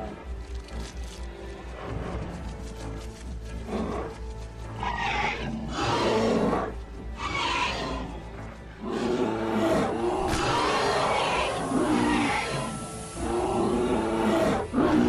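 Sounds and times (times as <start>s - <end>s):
animals roaring and snarling: 0.0s - 15.0s
dramatic music: 0.0s - 15.0s.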